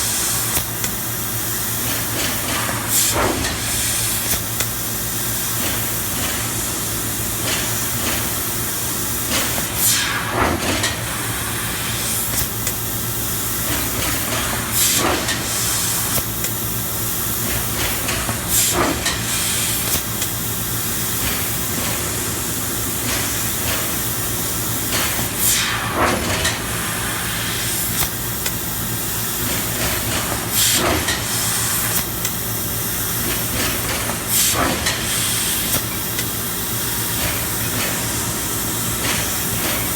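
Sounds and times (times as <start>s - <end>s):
laser cutter hissing: 0.0s - 39.9s.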